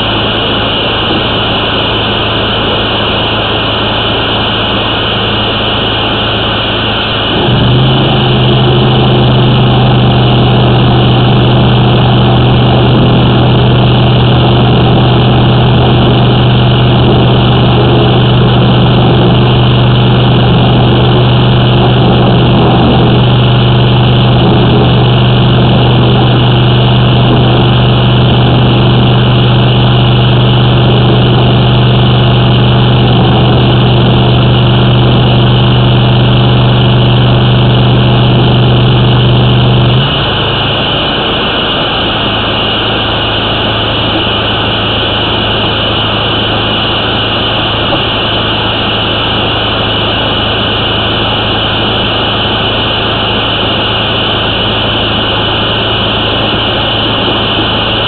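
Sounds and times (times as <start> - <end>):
engine and pump droning: 0.0 - 58.0.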